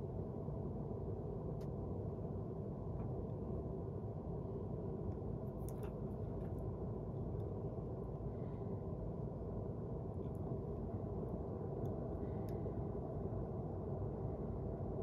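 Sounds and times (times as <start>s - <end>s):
room tone hum: 0.0s - 15.0s.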